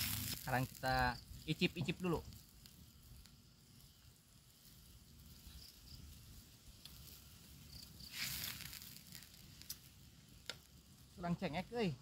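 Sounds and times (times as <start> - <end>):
snails simmering in a wok: 0.0 - 12.0
wood fire crackling: 0.0 - 12.0.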